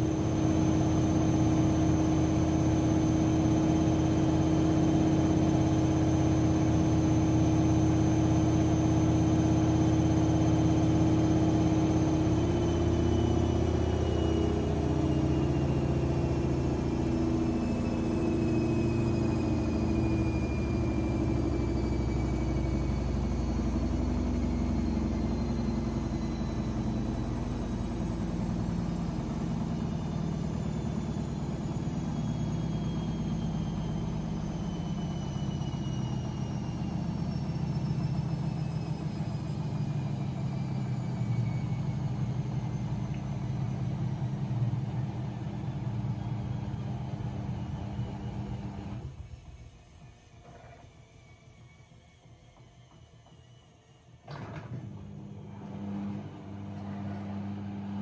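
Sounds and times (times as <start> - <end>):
washing machine spinning: 0.0 - 49.4, 54.3 - 58.0.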